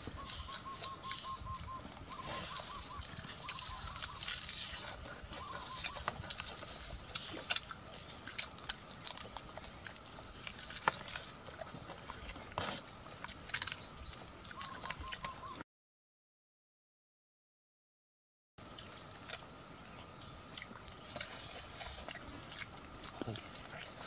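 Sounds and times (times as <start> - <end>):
wet chewing with lip smacks: 0.0 - 15.6, 18.6 - 24.0.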